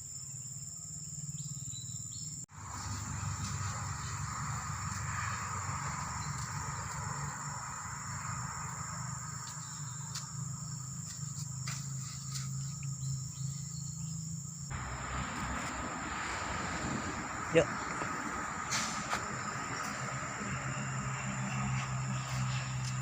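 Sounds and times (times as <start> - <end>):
crickets droning: 0.0 - 23.0.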